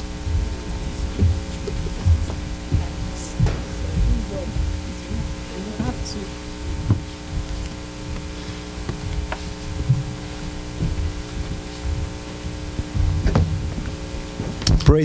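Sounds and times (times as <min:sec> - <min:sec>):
electrical mains hum: 0:00.0 - 0:15.0
low rumble: 0:00.0 - 0:15.0
soft thumps and clicks: 0:00.1 - 0:14.9.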